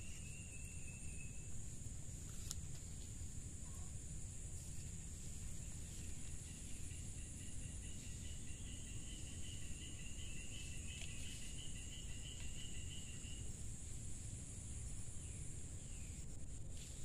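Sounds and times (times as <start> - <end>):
insects buzzing high: 0.0 - 17.0
steady low rumble: 0.0 - 17.0.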